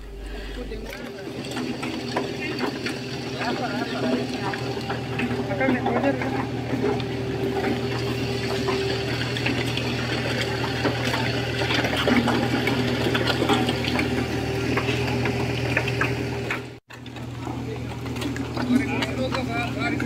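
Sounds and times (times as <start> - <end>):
road roller engine running: 0.0 - 20.0.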